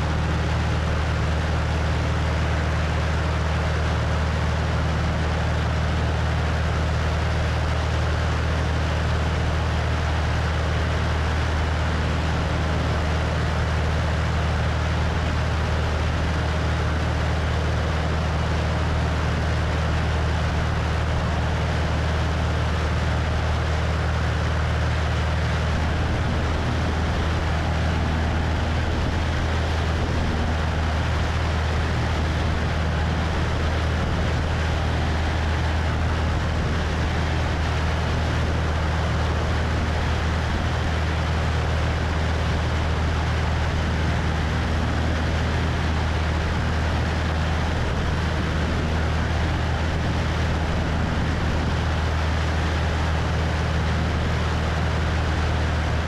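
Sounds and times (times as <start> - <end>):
propeller plane engine droning: 0.0 - 56.0
wind rushing over microphone: 10.2 - 56.0.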